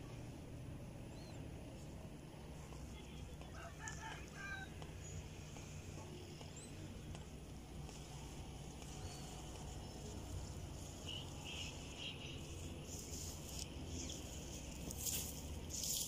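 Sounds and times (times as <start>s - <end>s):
faint chirps: 1.0s - 14.6s
soft rustling: 2.5s - 16.0s.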